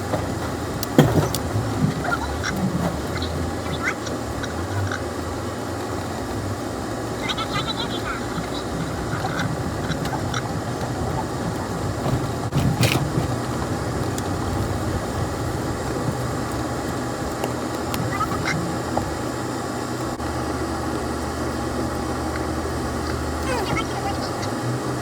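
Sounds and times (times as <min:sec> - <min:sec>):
off-road vehicle engine hum: 0:00.0 - 0:25.0
rough road noise: 0:00.0 - 0:25.0
vehicle rattle: 0:00.0 - 0:25.0.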